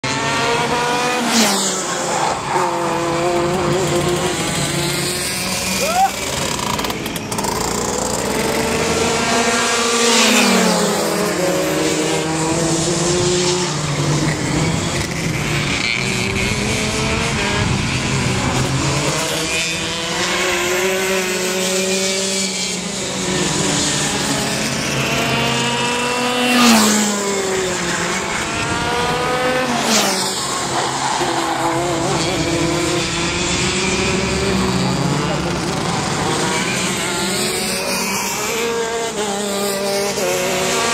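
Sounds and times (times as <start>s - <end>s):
go-kart engines revving: 0.0s - 40.9s.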